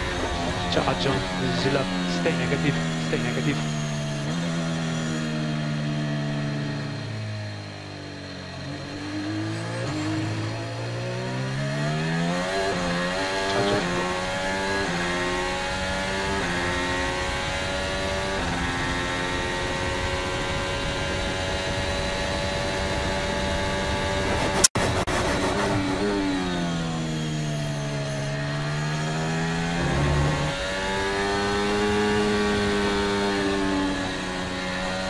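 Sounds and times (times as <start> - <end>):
race car engine accelerating: 0.0 - 35.0.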